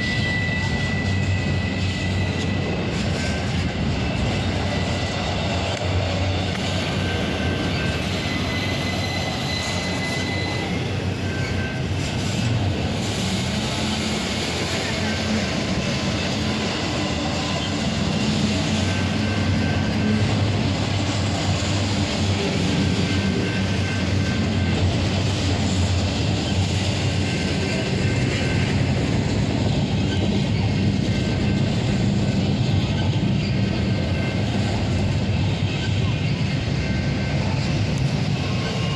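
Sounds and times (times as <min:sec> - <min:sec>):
freight train rumbling past: 0:00.0 - 0:38.9
high wheel squeal: 0:00.0 - 0:38.9.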